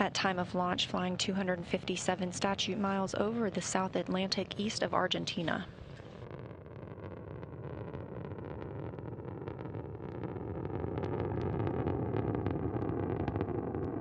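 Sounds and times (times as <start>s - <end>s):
rocket engines rumbling and crackling: 0.0s - 14.0s.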